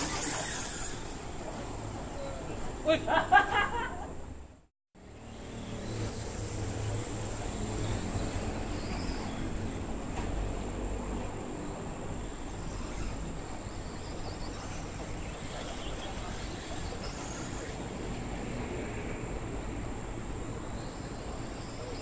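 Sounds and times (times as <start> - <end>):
road traffic rumble and hiss: 0.0 - 22.0.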